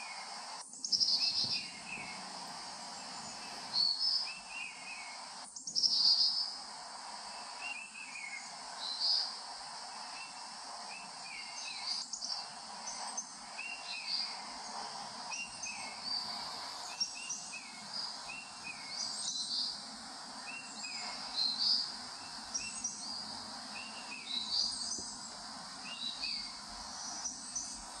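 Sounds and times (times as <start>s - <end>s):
background hiss: 0.0s - 28.0s
birds chirping: 0.0s - 28.0s.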